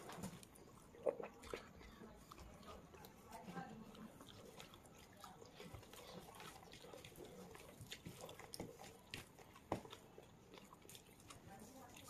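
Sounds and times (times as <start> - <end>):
wet sticky eating sounds: 0.0 - 12.0.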